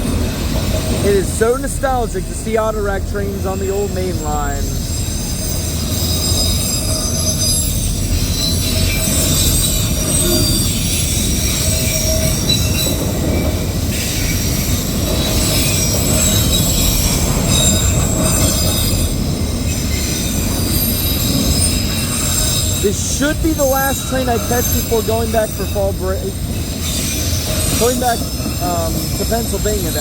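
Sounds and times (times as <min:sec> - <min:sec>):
steel wheels rumbling on rail: 0:00.0 - 0:30.0
high-pitched wheel squeals: 0:03.4 - 0:30.0.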